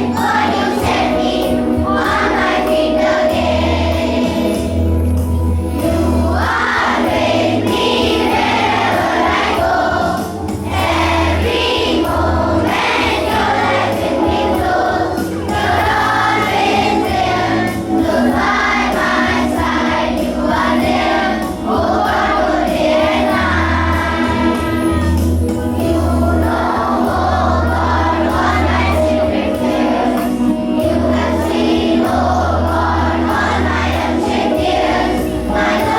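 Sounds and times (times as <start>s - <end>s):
choir singing: 0.0s - 5.2s, 5.8s - 35.9s
instrumental accompaniment: 0.0s - 35.9s.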